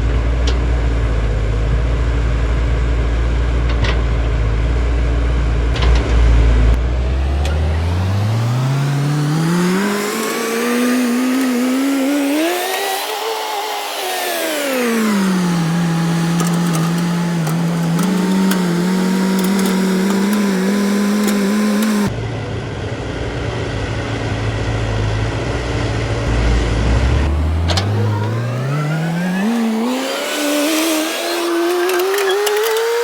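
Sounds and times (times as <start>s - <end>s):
excavator diesel engine and hydraulics: 0.0s - 33.0s.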